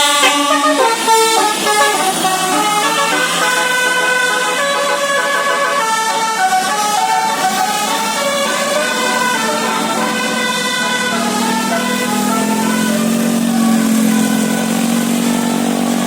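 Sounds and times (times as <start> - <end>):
musical bus air horns: 0.0 - 16.0.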